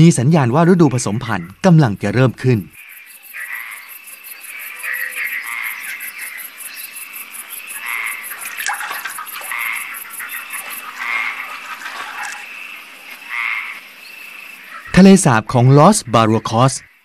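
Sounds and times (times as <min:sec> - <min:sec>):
frogs trilling in chorus: 0:00.0 - 0:17.0.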